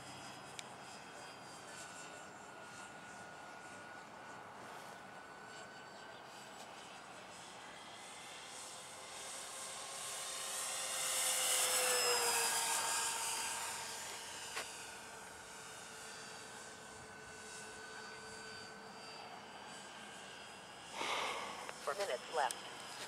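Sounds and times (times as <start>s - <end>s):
model plane motors whining: 0.0s - 23.0s.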